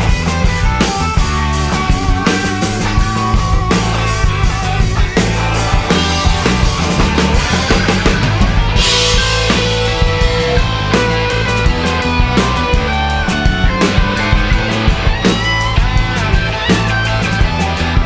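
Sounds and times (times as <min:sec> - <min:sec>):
bass guitar: 0:00.0 - 0:18.0
drum kit beat: 0:00.0 - 0:18.0
electric guitar: 0:00.0 - 0:18.0.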